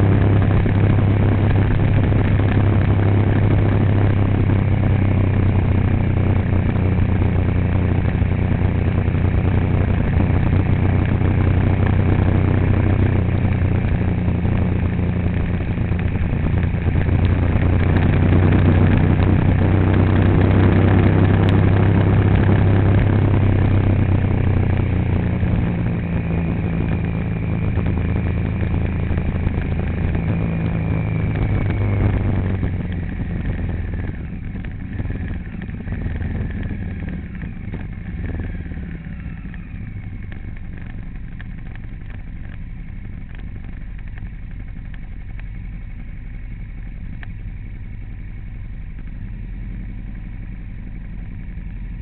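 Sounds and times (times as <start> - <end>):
road noise: 0.0 - 52.0
vehicle engine humming: 0.0 - 52.0.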